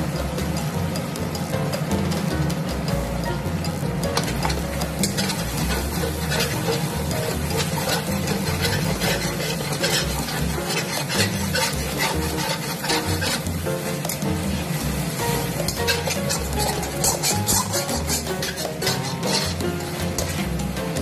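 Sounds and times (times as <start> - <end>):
hot oil sizzling: 0.0 - 21.0
spatula scraping a wok: 3.7 - 21.0.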